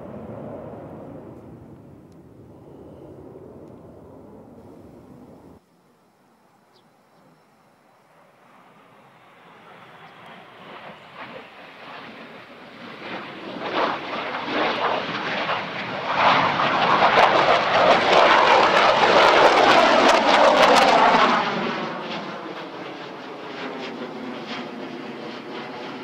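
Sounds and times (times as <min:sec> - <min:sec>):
jet fly-past roar: 0:00.0 - 0:05.6, 0:08.0 - 0:26.0.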